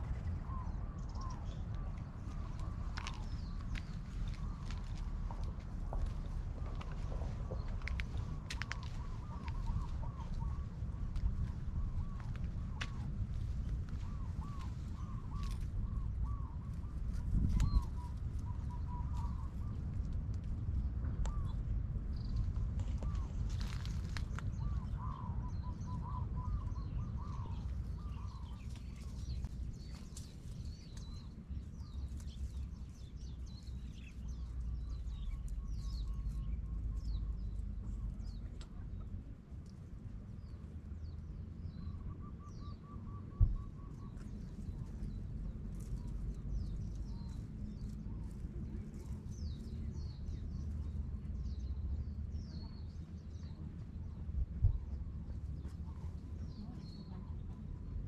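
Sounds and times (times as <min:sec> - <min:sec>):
small birds chirping: 0:00.0 - 0:58.0
steady low rumble: 0:00.0 - 0:58.0.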